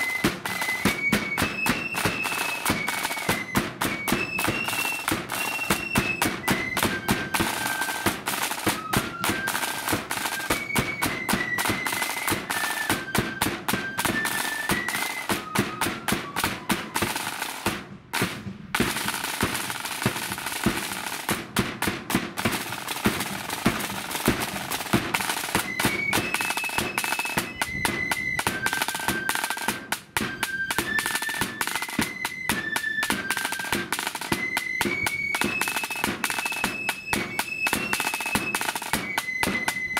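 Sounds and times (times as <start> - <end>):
flute melody: 0.0 - 18.2, 22.4 - 39.9
snare drum rolls: 0.0 - 39.9.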